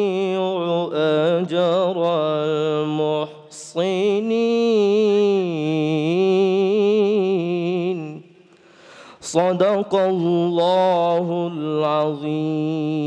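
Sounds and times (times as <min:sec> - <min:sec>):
man reciting melodically: 0:00.0 - 0:08.4, 0:09.1 - 0:13.0.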